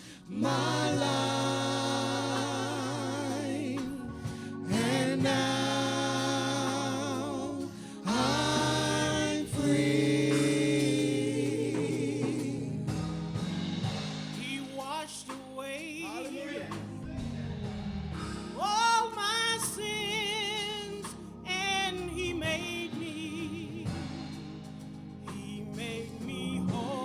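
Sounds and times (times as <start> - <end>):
sustained accompaniment: 0.0 - 15.2, 16.2 - 27.0
gospel singing with vibrato: 0.0 - 27.0.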